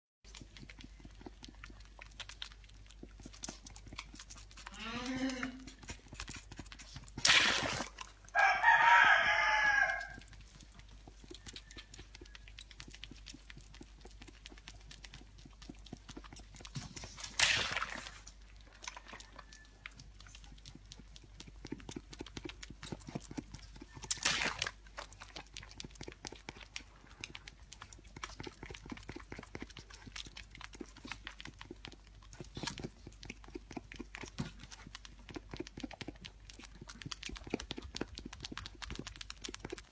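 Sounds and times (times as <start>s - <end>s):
lamb sucking at bottle teat: 0.3s - 39.9s.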